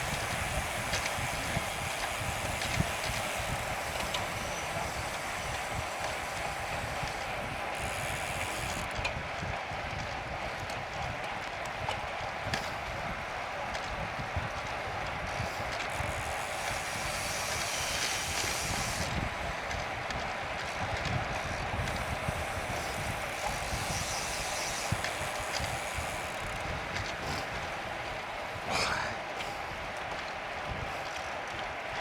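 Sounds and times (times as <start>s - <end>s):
bicycle tyres rolling: 0.0s - 32.0s
wind buffeting microphone: 0.0s - 32.0s.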